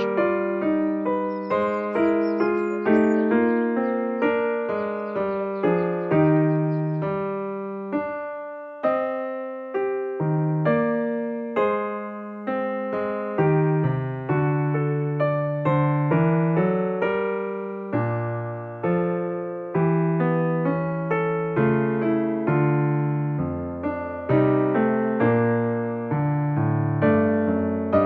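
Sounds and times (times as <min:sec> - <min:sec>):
soft piano music: 0:00.0 - 0:28.0.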